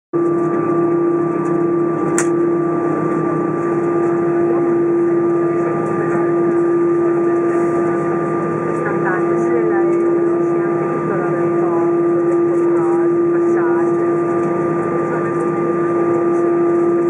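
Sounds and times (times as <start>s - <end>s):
aircraft cabin hum: 0.2s - 17.0s.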